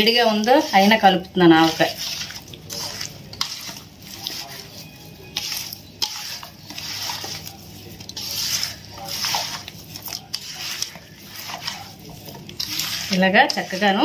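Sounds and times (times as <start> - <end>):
hands squelching mango in bowl: 0.0 - 14.0.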